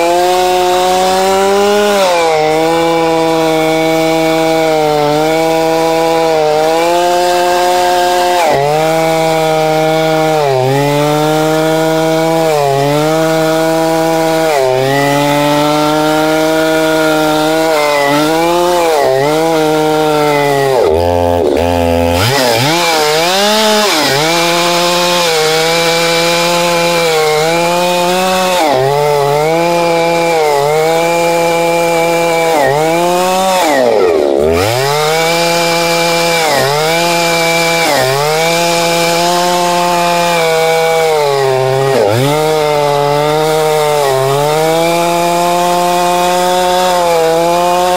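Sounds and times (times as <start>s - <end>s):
chainsaw cutting through log: 0.0s - 47.9s.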